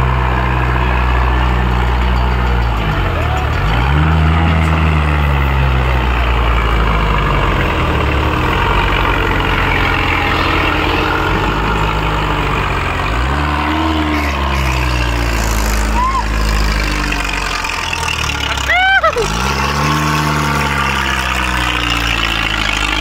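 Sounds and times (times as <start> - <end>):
tractor diesel engines under load: 0.0 - 23.0.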